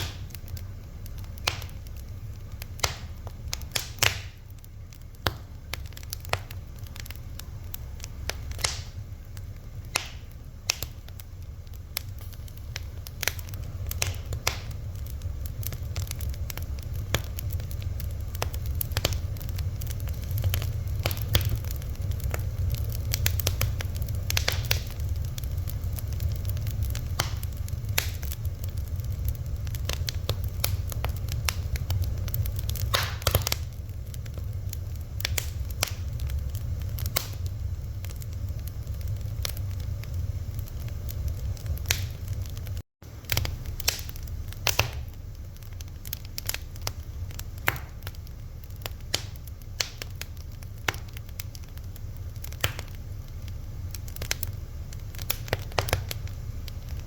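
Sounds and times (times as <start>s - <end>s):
fire crackling and popping: 0.0s - 57.0s
low steady rumble: 0.0s - 57.0s.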